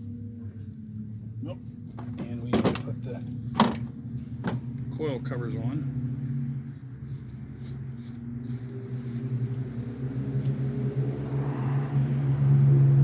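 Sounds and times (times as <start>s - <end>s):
engine running low hum: 0.0s - 13.0s.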